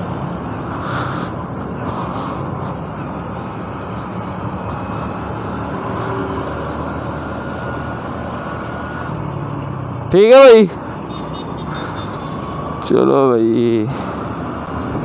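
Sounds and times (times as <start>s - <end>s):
motorcycle engine: 0.0s - 12.9s
road noise: 0.0s - 15.0s.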